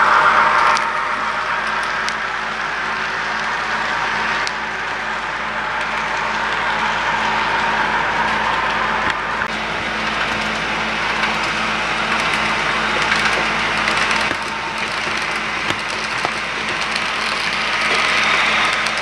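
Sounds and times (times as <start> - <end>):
model trains whirring: 3.4 - 19.0.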